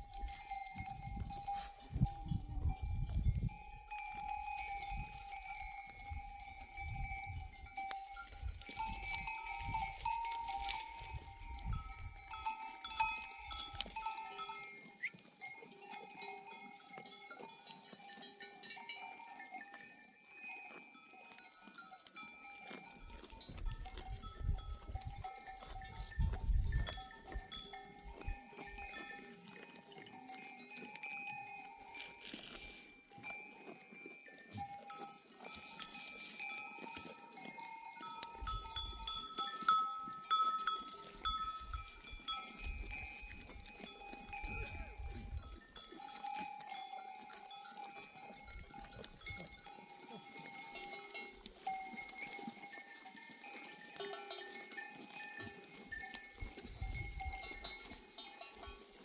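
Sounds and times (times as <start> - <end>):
sheep bells ringing and clanking: 0.0 - 59.0.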